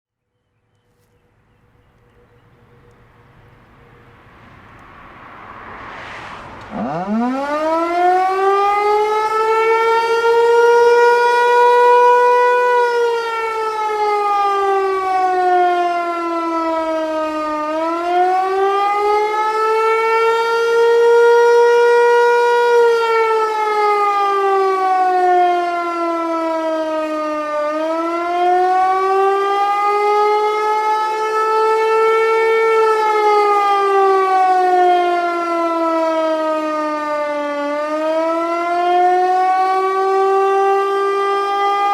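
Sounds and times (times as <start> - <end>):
rising and falling warning siren: 1.2 - 41.9.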